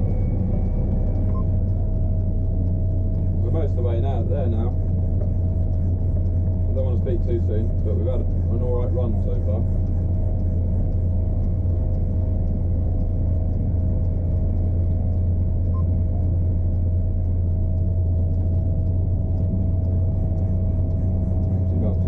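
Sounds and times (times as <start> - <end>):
combine harvester engine drone: 0.0 - 22.0
steady engine whine: 0.0 - 22.0.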